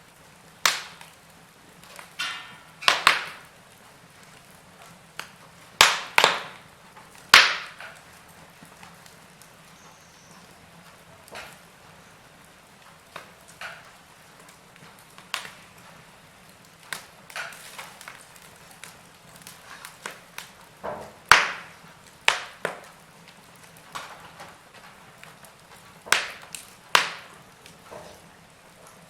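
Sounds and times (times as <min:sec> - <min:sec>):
logs crackling in a fireplace: 0:00.0 - 0:29.0.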